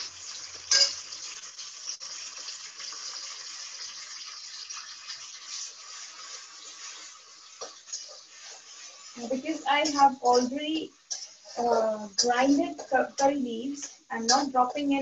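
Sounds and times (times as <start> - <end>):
paste sizzling in hot oil: 0.0 - 14.9.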